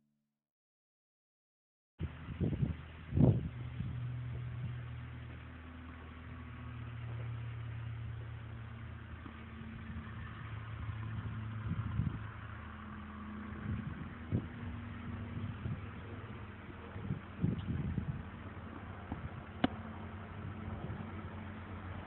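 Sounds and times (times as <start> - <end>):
engine humming at idle: 2.0 - 22.0.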